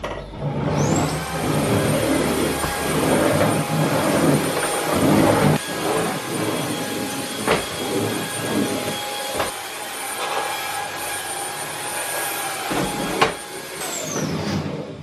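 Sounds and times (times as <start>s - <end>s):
stick vacuum motor whine: 0.4s - 15.0s.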